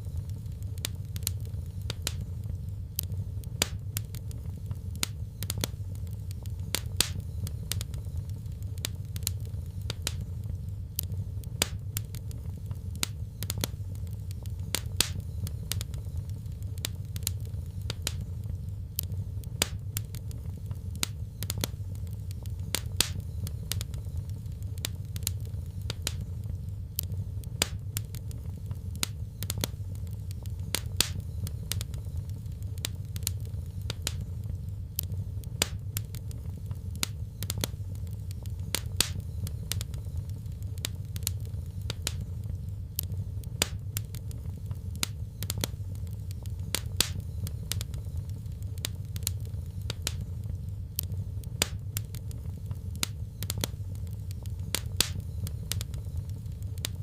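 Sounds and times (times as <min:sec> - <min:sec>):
low rumble of burning fire: 0:00.0 - 0:57.0
wood fire crackling and popping: 0:00.0 - 0:57.0.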